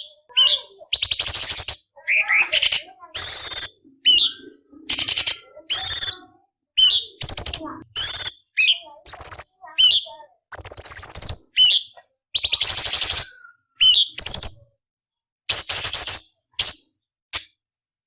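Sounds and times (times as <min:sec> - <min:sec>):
bird singing harsh scratchy bursts: 0:00.0 - 0:14.8, 0:15.5 - 0:17.6.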